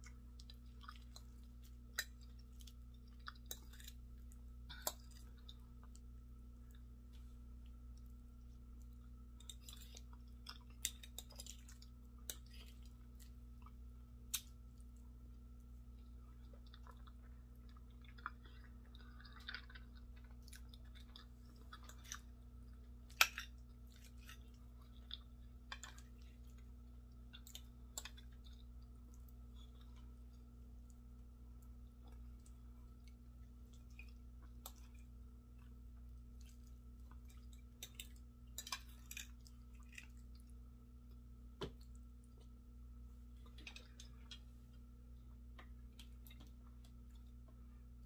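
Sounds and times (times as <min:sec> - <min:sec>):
chewing and mouth sounds: 0:00.0 - 0:42.6, 0:45.6 - 0:47.8
steady low hum: 0:00.0 - 0:48.0.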